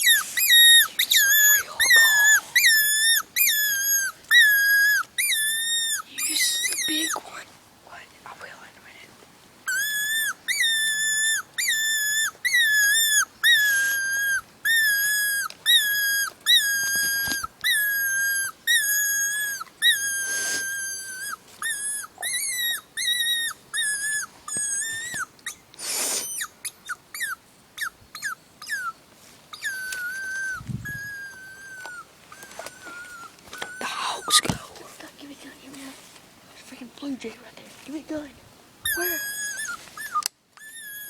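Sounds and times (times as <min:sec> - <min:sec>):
hog call squealing: 0:00.0 - 0:07.2, 0:09.7 - 0:34.6, 0:38.8 - 0:41.0.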